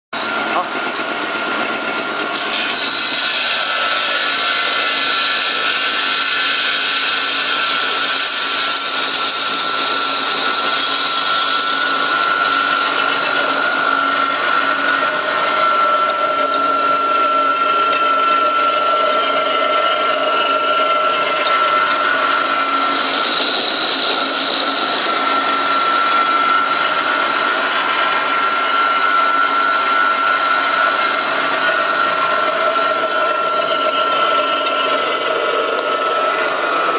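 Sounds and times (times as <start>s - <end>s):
grinding mill motor whining: 0.2s - 36.9s.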